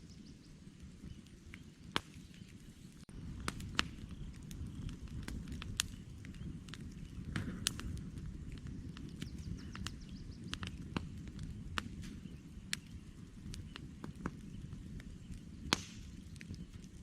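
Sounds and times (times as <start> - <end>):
campfire crackling: 0.0 - 17.0
fire pops and snaps: 0.1 - 17.0.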